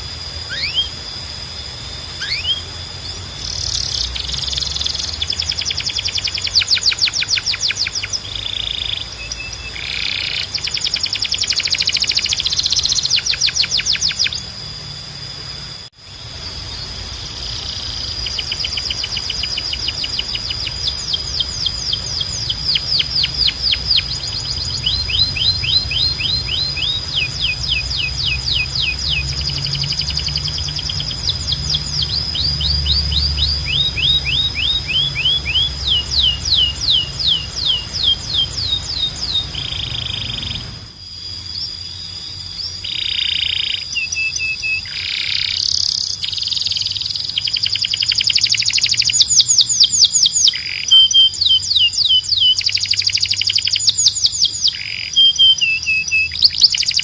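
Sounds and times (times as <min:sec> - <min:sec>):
canaries singing trills: 0:00.0 - 0:57.0.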